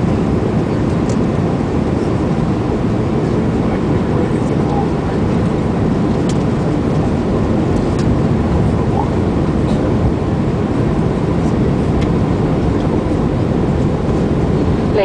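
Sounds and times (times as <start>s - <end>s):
jet engine roar in cabin: 0.0s - 15.0s.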